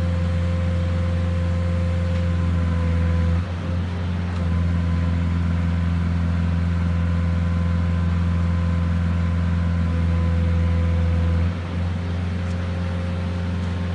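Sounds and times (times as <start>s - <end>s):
engine low hum: 0.0s - 13.9s.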